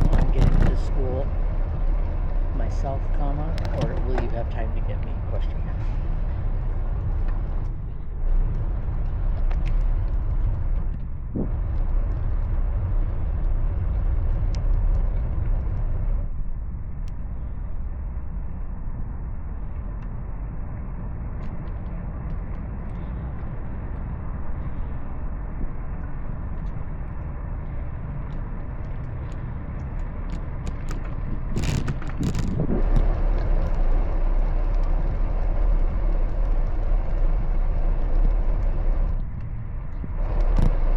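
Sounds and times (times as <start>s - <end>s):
traffic: 0.0s - 40.9s
wind and road noise rumble: 0.0s - 40.9s.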